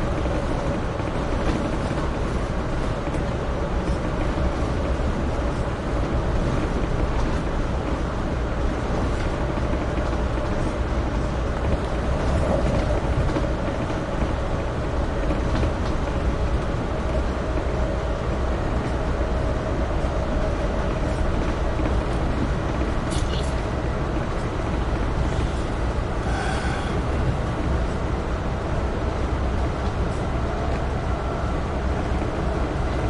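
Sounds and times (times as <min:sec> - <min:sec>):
constant hum: 0:00.0 - 0:33.0
train rumble and rush: 0:00.0 - 0:33.0.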